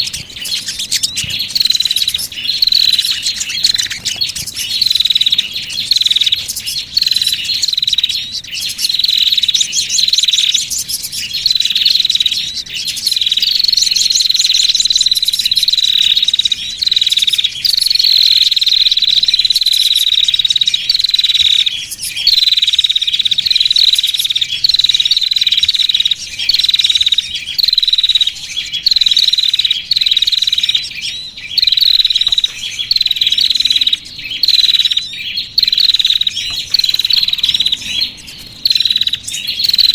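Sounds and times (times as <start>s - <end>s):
bird buzzy trill: 0.0s - 39.9s.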